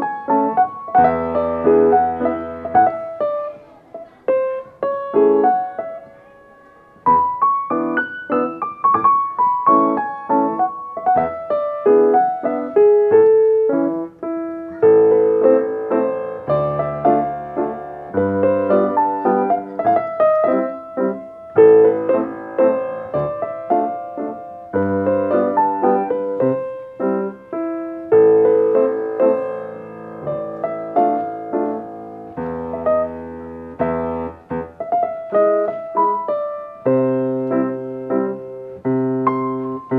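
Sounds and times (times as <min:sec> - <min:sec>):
solo classical piano: 0:00.0 - 0:39.9.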